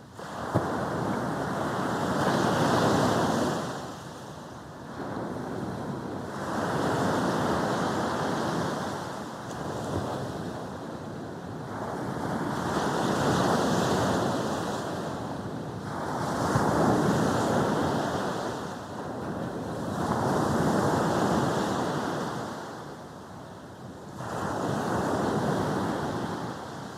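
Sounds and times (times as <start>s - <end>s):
sea waves breaking on beach: 0.1s - 23.1s, 24.1s - 26.9s.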